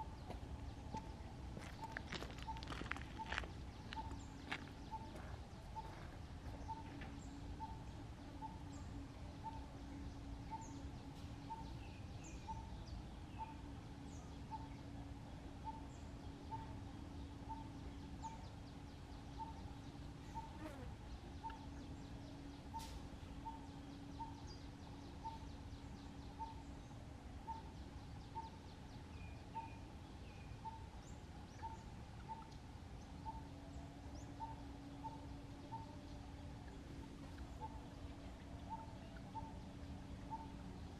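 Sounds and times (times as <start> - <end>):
low hum and rumble: 0.0 - 40.9
faint higher bird chirps: 1.0 - 40.9.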